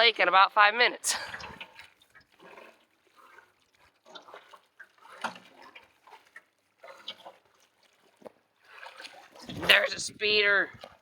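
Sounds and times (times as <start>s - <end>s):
swimmer splashing water: 1.1s - 11.0s
water lapping against a boat: 1.1s - 11.0s.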